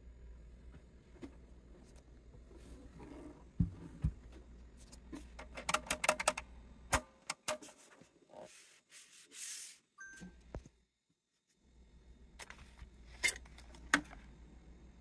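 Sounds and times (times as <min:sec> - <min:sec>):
low steady hum: 0:00.0 - 0:09.2, 0:10.0 - 0:15.0.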